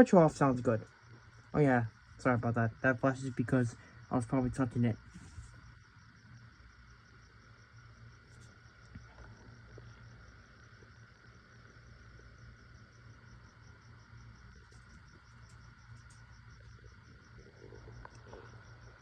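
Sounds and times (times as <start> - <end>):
insect chirping: 0.0 - 19.0
steady low hum: 0.0 - 19.0.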